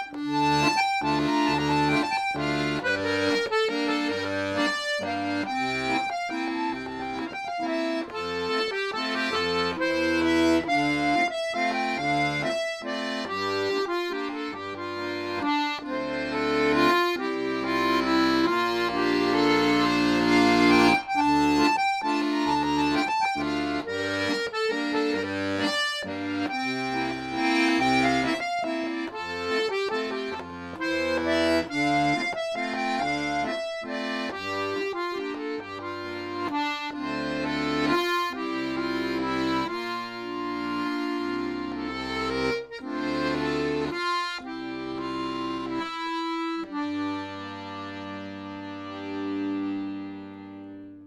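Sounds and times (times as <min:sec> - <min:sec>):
accordion playing a waltz: 0:00.0 - 0:51.0.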